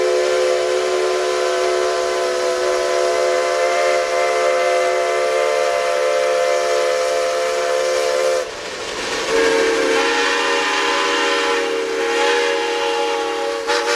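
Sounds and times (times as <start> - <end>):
steam locomotive whistle: 0.0 - 8.6, 9.3 - 13.9.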